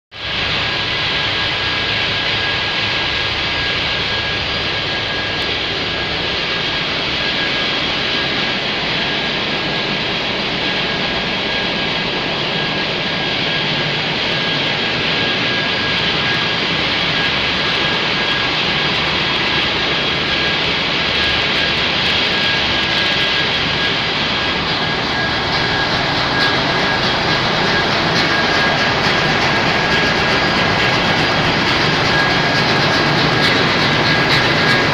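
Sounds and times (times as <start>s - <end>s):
engine room machinery running: 0.1s - 34.9s
thin high whine: 0.2s - 34.9s.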